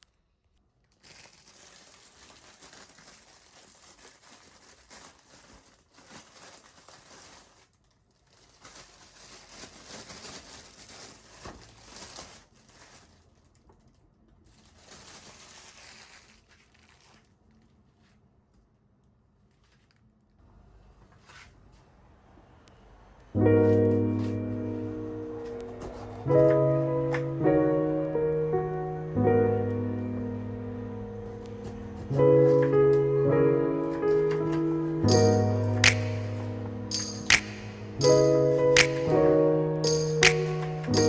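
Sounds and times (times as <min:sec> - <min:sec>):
crinkling and rustling: 0:00.0 - 0:20.4, 0:23.4 - 0:41.0.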